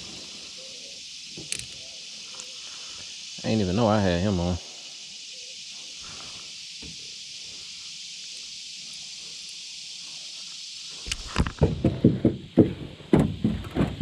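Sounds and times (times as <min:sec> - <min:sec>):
high insect chorus: 0:00.0 - 0:14.0.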